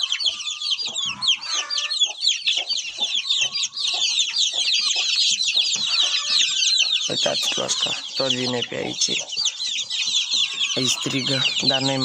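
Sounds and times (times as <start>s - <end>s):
chicks and ducklings peeping: 0.0s - 12.0s
faint lower bird calls: 0.0s - 12.0s.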